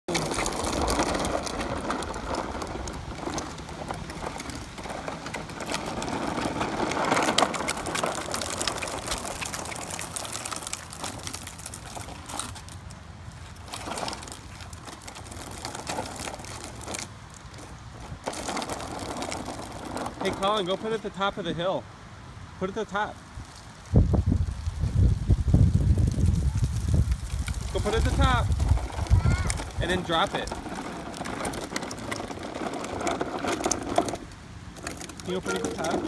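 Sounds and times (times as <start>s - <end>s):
toy truck rattling on pavement: 0.1s - 21.6s, 25.6s - 36.0s.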